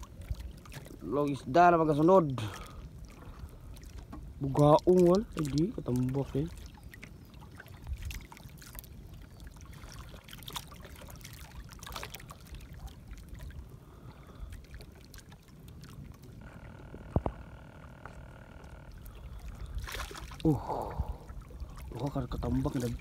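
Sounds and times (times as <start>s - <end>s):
water splashing and dripping: 0.0s - 1.2s, 2.2s - 16.4s, 19.0s - 23.0s.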